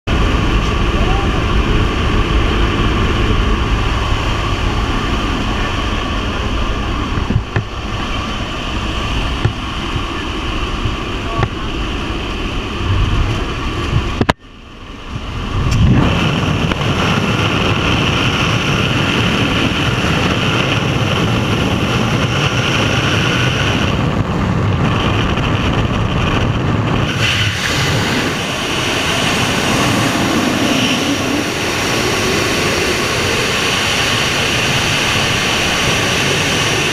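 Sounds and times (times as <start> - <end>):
propeller engine drone: 0.1 - 36.9
wind rushing: 0.1 - 36.9.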